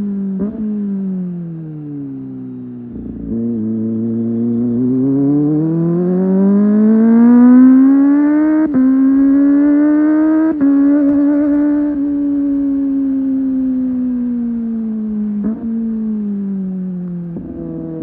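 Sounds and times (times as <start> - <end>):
motorcycle engine revving: 0.0 - 16.6, 17.2 - 18.0.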